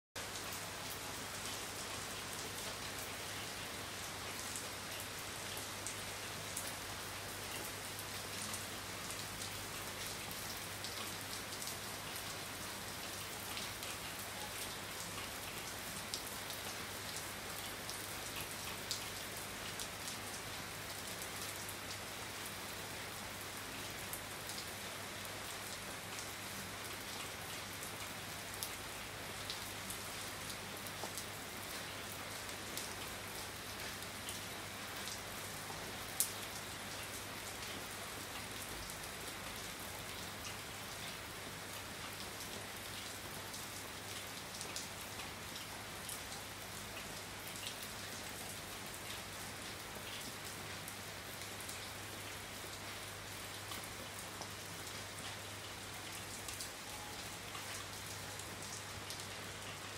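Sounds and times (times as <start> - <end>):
steady rain on street and roof: 0.2 - 59.9.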